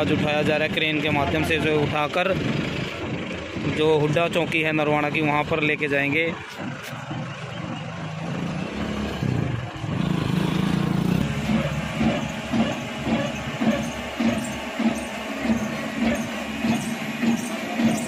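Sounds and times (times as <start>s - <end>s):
crane engine running: 0.0s - 18.0s.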